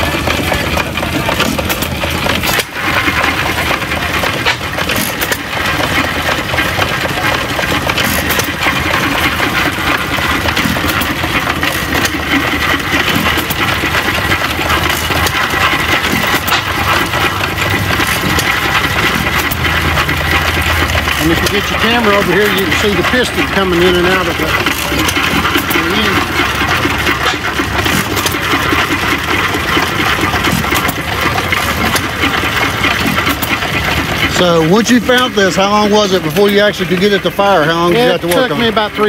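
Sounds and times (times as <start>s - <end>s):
old engine clattering: 0.0s - 39.0s.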